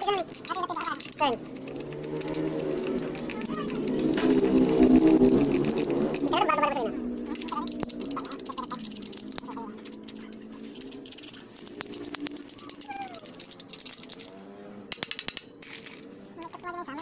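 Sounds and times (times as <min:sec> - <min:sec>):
metal parts clinking and rattling: 0:00.0 - 0:17.0.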